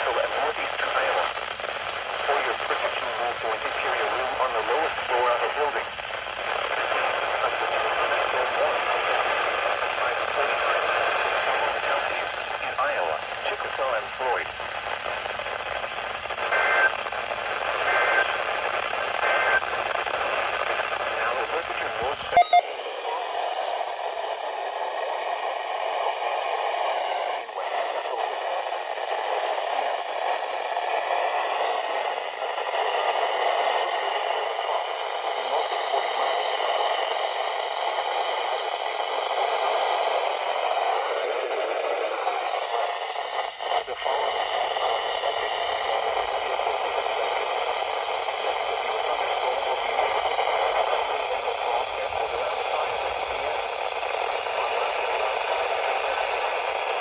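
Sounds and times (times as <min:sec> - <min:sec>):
radio static hiss: 0:00.0 - 0:57.0.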